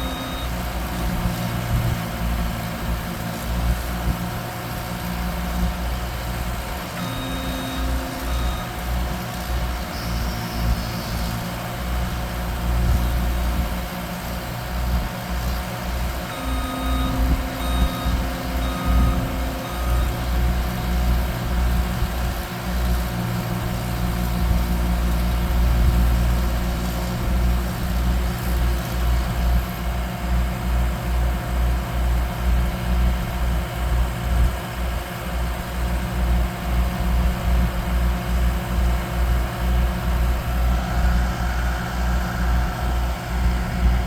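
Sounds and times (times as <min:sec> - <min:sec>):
throbbing diesel engine: 0:00.0 - 0:44.0.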